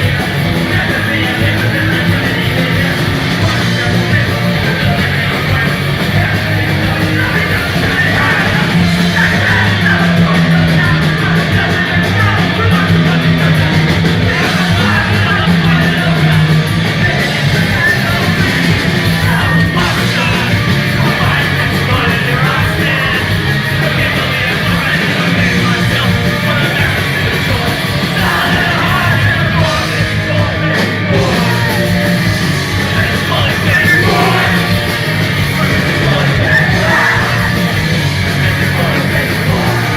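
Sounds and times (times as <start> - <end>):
punk rock band playing live: 0.0 - 39.9
singer yelling vocals: 0.0 - 39.9.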